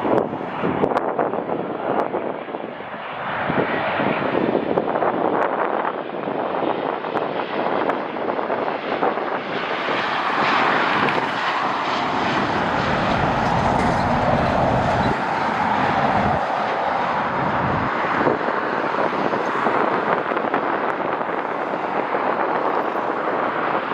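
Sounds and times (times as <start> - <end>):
jet engines roaring: 0.0 - 23.9.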